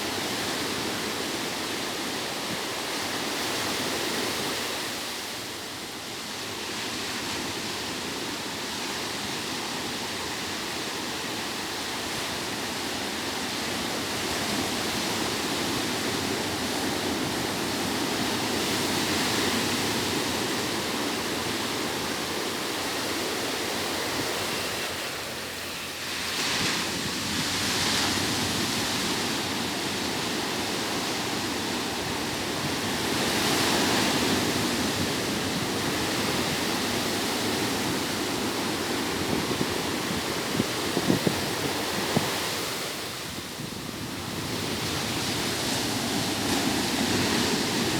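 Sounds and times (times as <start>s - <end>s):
ocean surf breaking on beach: 0.0s - 47.9s.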